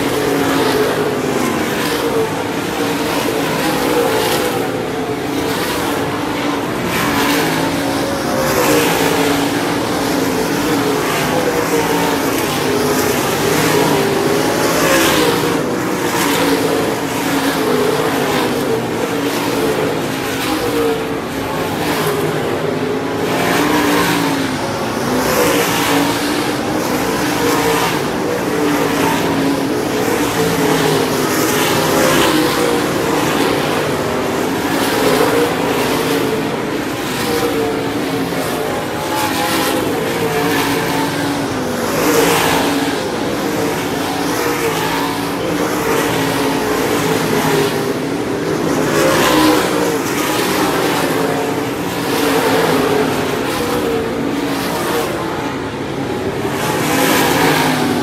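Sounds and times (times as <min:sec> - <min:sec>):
race car engines at full throttle: 0:00.0 - 0:58.0.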